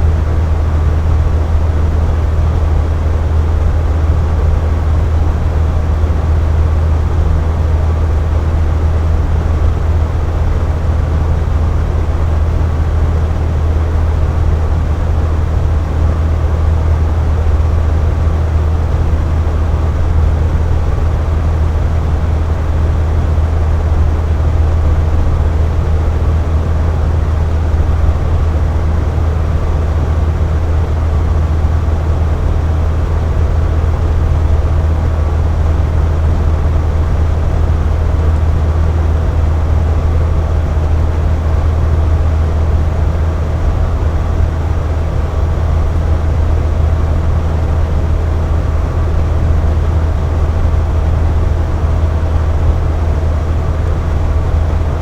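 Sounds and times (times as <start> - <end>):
box fan humming: 0.0 - 55.0.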